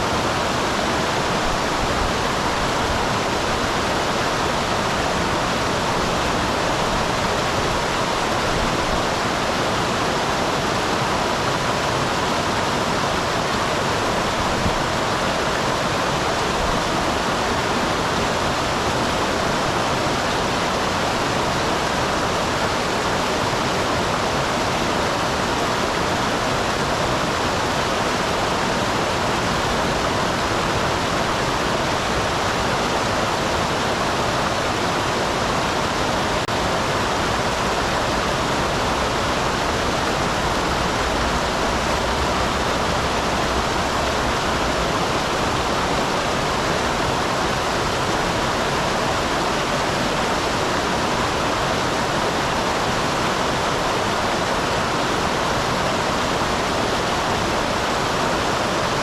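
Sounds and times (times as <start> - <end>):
small waterfall rushing: 0.0 - 59.0.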